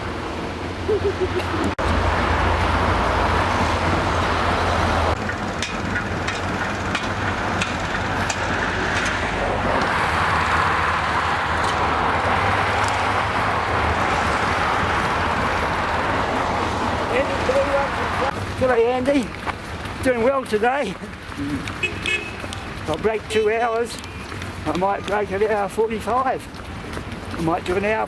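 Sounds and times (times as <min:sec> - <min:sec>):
roadside noise: 0:00.0 - 0:28.0.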